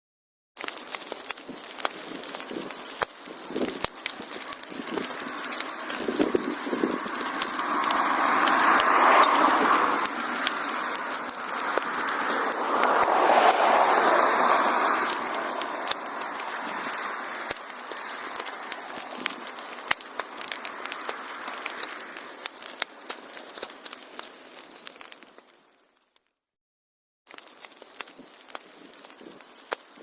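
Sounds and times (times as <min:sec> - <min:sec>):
wood fire crackling: 0:00.6 - 0:26.3, 0:27.3 - 0:30.0.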